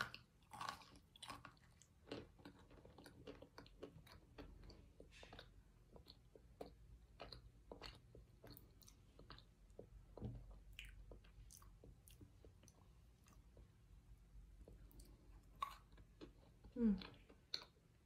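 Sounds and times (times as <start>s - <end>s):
chewing crunchy food: 0.0s - 18.0s.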